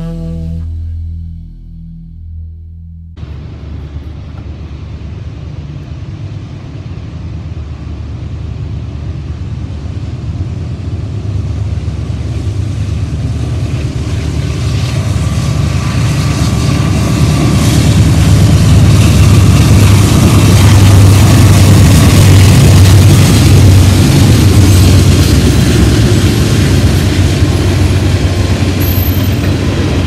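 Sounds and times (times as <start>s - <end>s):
diesel locomotive engine drone: 0.0s - 30.0s
rail noise: 3.2s - 30.0s.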